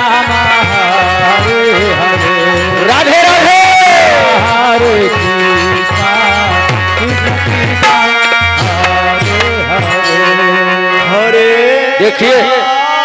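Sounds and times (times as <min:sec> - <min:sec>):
steady held notes: 0:00.0 - 0:12.9.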